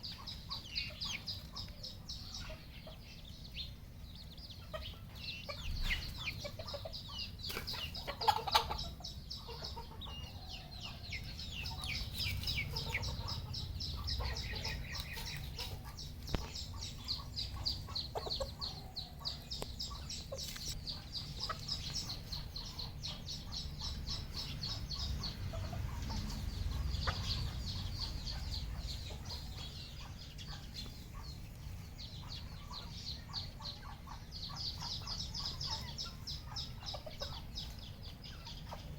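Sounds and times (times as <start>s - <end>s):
high-pitched chick peeping: 0.0s - 38.9s
junglefowl clucking and calling: 0.0s - 38.9s.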